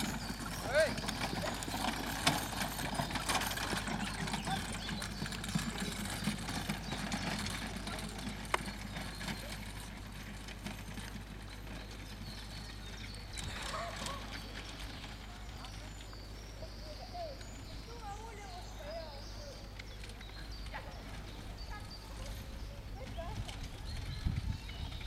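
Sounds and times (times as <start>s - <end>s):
horse trotting on grass: 0.0s - 25.0s.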